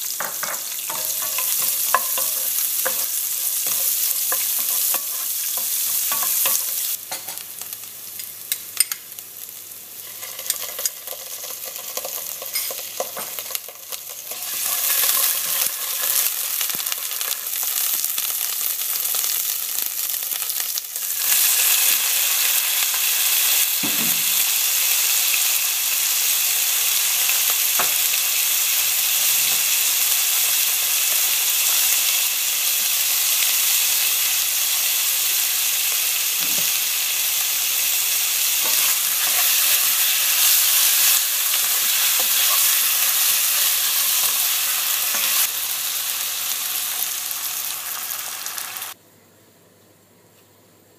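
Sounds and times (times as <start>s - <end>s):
food sizzling in hot oil: 0.0s - 49.0s.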